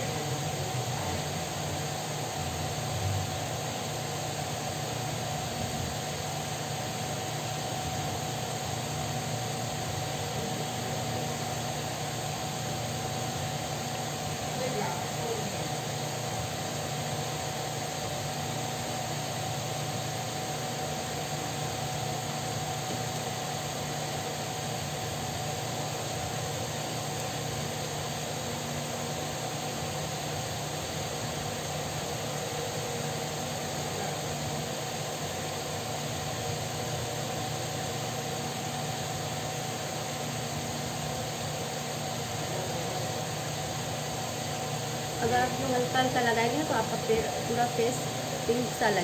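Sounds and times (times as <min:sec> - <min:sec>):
electric fan whirring: 0:00.0 - 0:49.0.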